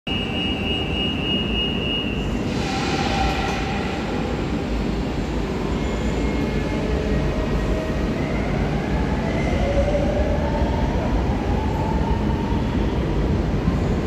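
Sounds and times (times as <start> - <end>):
train low rumble: 0.2 - 14.0.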